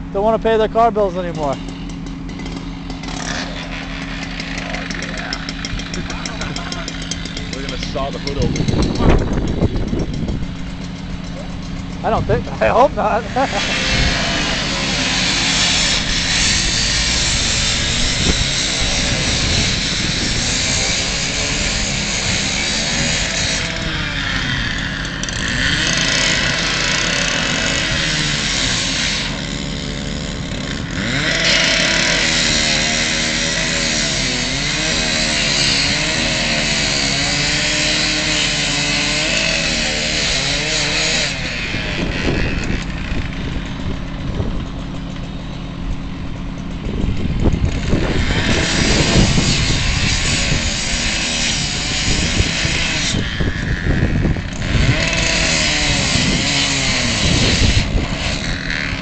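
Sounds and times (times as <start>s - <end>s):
gas-powered saw revving: 0.0s - 59.0s
saw hissing cutting metal: 0.4s - 10.0s, 10.6s - 43.9s, 47.7s - 59.0s.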